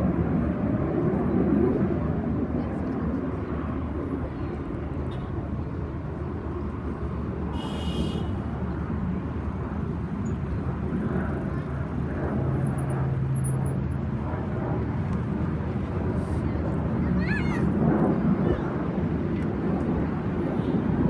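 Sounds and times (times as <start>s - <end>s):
distant aircraft engines rumbling: 0.0s - 21.0s.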